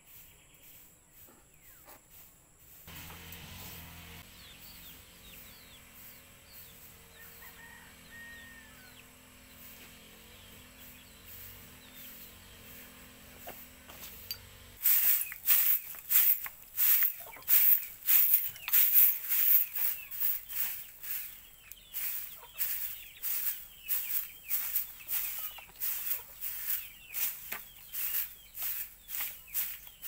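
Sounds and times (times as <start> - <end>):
faint birds chirping: 0.0 - 2.8, 3.4 - 30.0.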